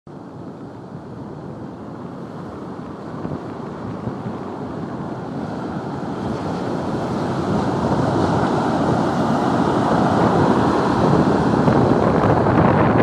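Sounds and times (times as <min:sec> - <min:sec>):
storm surf breaking on beach: 0:00.1 - 0:13.0
wind buffeting microphone: 0:00.2 - 0:13.0.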